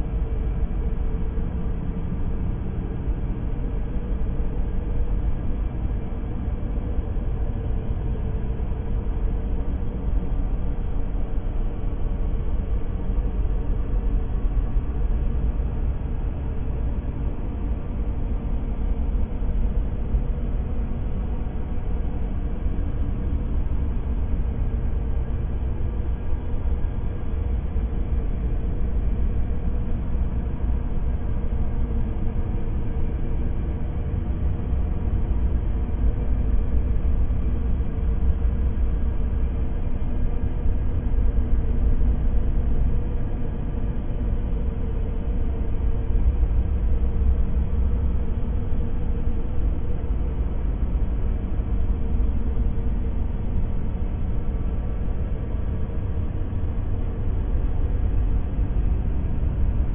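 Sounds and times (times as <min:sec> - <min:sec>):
faint constant hum: 0:00.0 - 0:59.9
low rumbling room tone: 0:00.0 - 0:59.9.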